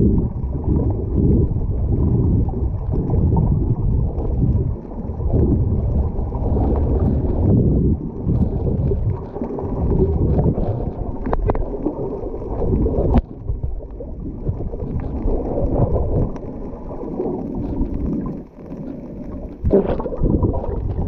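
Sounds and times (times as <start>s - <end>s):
underwater sloshing rumble: 0.0s - 21.0s.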